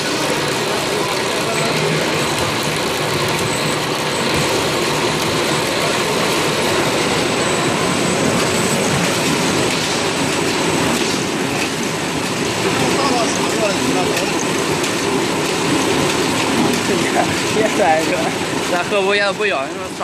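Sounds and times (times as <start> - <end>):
rollers grinding a log: 0.0 - 19.3
woodworking machinery rumbling clatter: 0.0 - 20.0.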